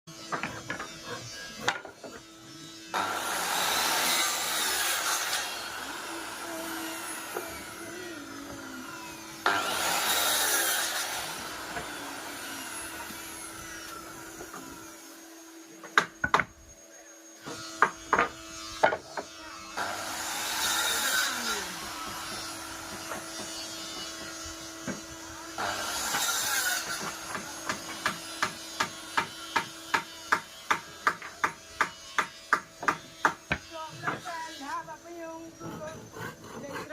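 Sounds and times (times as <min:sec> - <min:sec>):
power saw cutting wood: 0:00.1 - 0:36.9.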